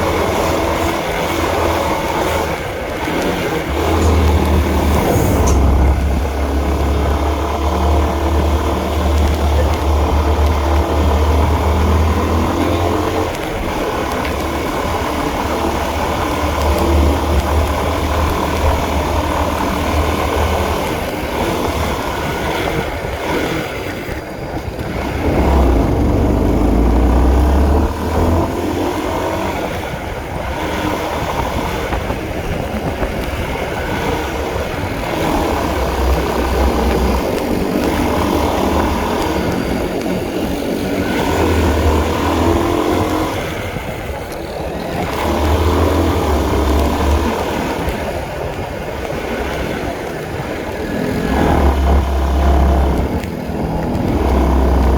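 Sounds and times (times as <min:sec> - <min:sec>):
heavy low rumble: 0:00.0 - 0:22.2, 0:24.8 - 0:30.5, 0:31.3 - 0:54.9
motorcycle engine running: 0:00.0 - 0:54.9.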